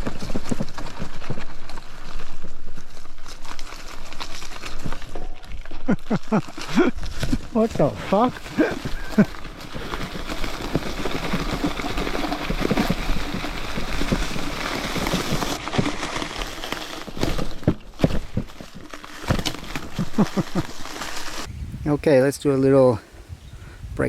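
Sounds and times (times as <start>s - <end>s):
bicycle clicks and rattles: 0.0s - 21.5s
bicycle tyres on dirt trail: 0.0s - 24.0s.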